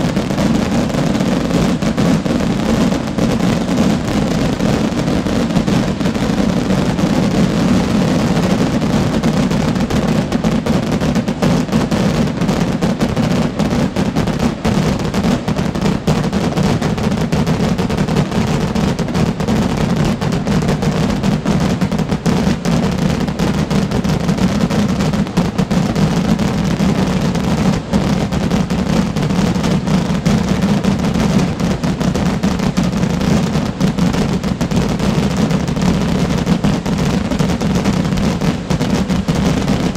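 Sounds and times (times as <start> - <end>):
firework rockets exploding: 0.0 - 39.9.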